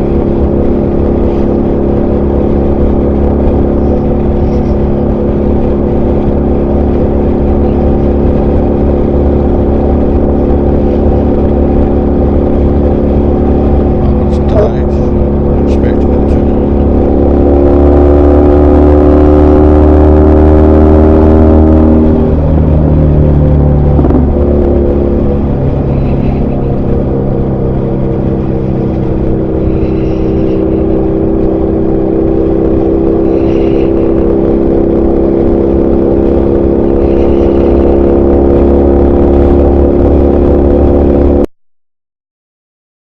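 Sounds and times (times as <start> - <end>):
motorcycle engine running: 0.0 - 41.5.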